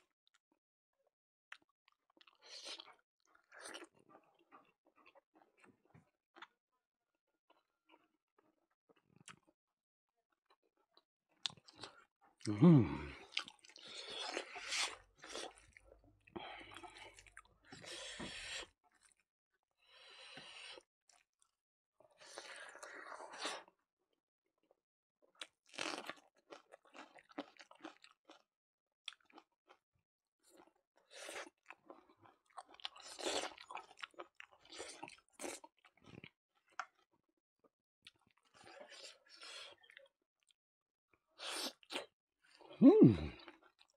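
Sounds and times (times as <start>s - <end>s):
man chewing and crunching food: 1.5s - 6.6s, 7.5s - 9.6s, 10.2s - 19.2s, 19.8s - 23.8s, 25.2s - 29.8s, 30.4s - 37.2s, 38.0s - 40.6s, 41.2s - 43.9s.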